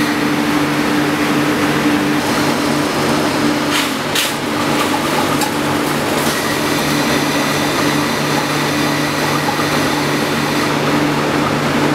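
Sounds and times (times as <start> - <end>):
blower rushing air with low hum: 0.0 - 11.9.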